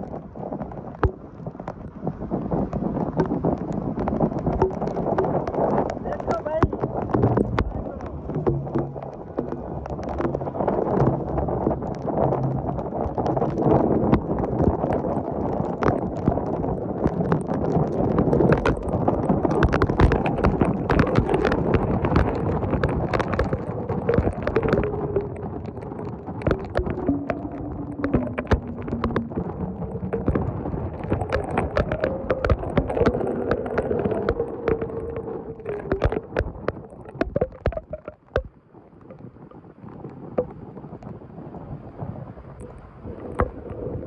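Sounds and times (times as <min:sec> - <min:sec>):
heavy rain: 0:00.0 - 0:39.8
wind buffeting the microphone: 0:00.0 - 0:44.0.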